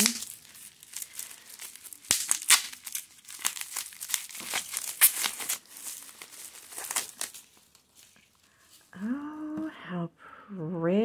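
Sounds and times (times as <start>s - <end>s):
bubble wrap crinkling: 0.0s - 9.4s.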